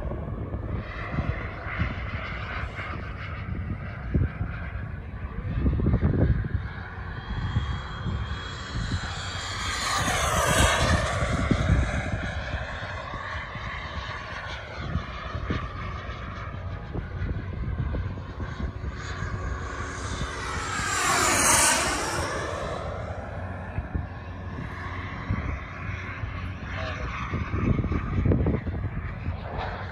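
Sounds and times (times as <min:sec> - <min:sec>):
jet turbine engine whining: 0:00.0 - 0:29.9.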